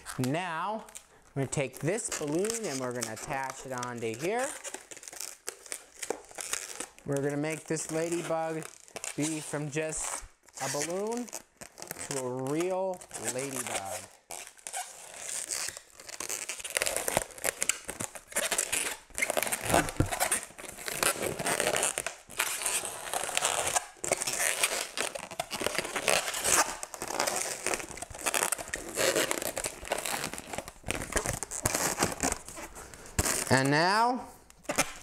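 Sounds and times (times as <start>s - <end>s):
balloons rubbing and clicking: 0.0s - 35.0s.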